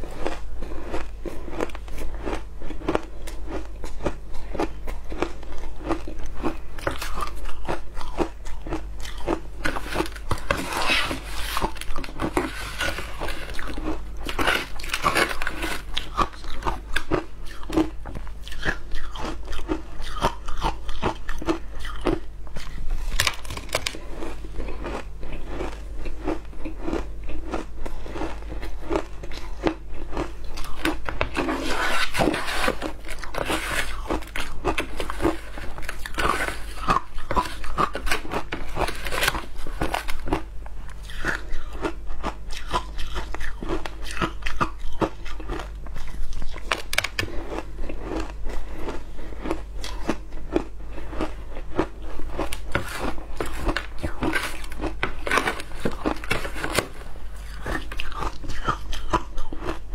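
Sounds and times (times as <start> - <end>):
shaved ice crunching in mouth: 0.0 - 40.4, 41.0 - 59.9.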